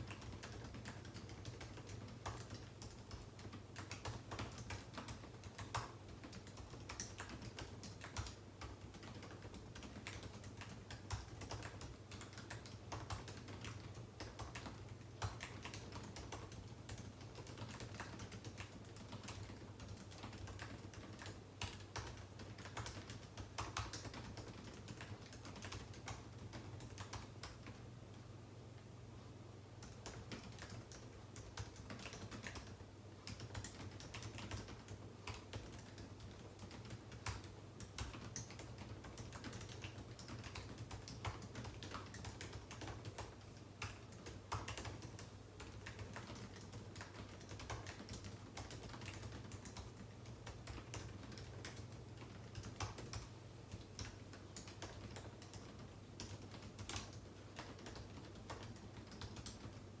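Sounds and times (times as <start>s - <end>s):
typing on computer keyboard: 0.0s - 27.9s, 29.8s - 60.0s
low steady hum: 0.0s - 60.0s.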